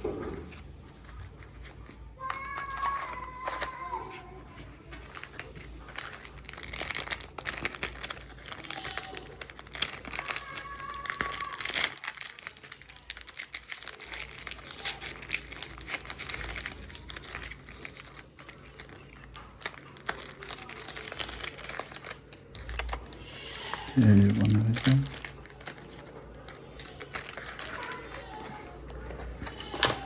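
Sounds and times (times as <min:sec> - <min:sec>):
packaging crinkling and tearing: 0:00.1 - 0:30.0.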